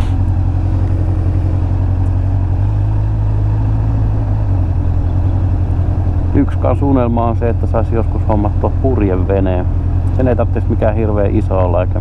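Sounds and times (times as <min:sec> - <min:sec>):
motorcycle engine running low revs: 0:00.0 - 0:12.0.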